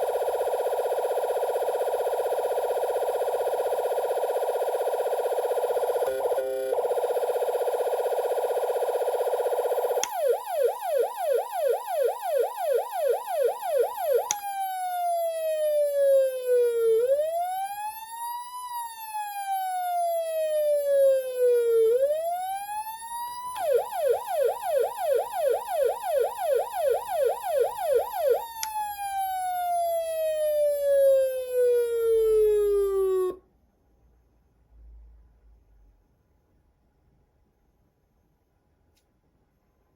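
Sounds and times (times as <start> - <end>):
electronic siren switching tones: 0.0 - 33.4.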